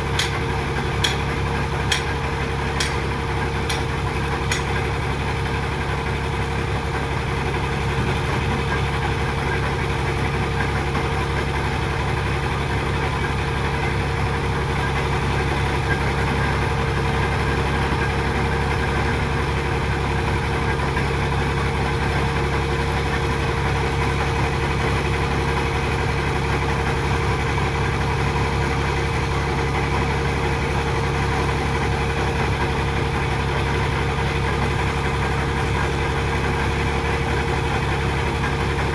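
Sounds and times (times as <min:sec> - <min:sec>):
heavy machine engine droning: 0:00.0 - 0:38.9.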